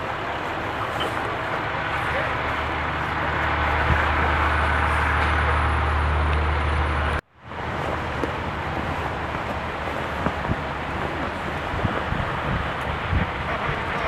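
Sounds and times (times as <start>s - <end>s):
outdoor traffic noise: 0.0s - 14.0s
vehicle engine humming: 0.0s - 14.0s.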